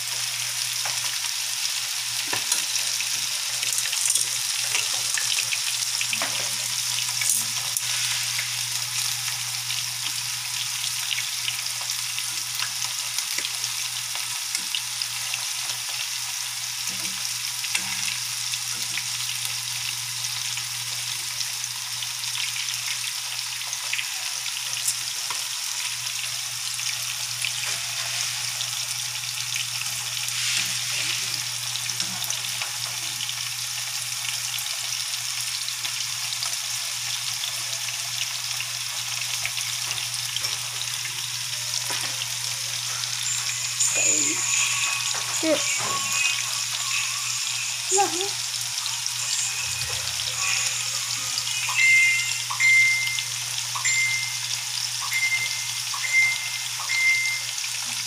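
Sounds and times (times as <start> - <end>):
squid deep-frying in oil: 0.0 - 58.0.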